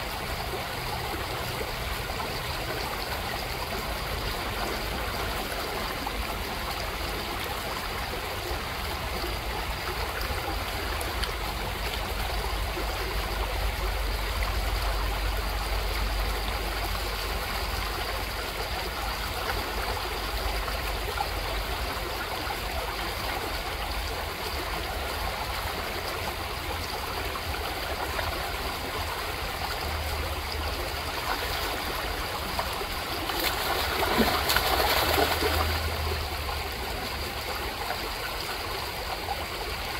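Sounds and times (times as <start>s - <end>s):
water rushing and trickling: 0.0s - 39.9s.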